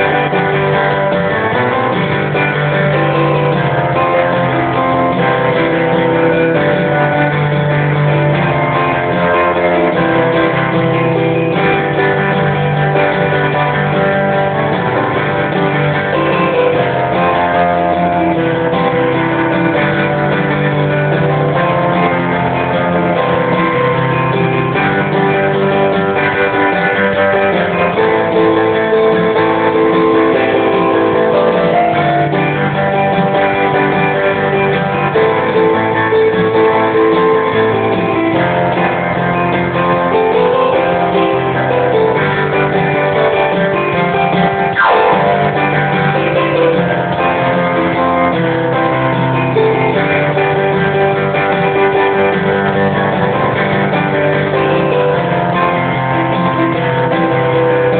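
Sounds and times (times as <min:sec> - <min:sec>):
guitar chords ringing: 0:00.0 - 0:57.9.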